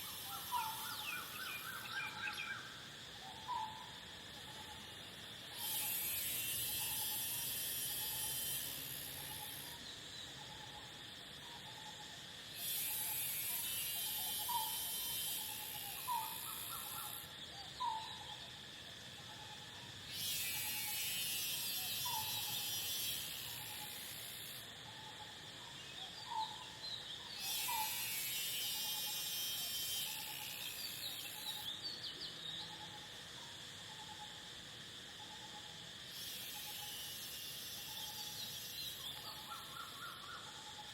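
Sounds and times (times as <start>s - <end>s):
cricket trill: 0.0s - 40.9s
high insect buzz: 0.0s - 40.9s.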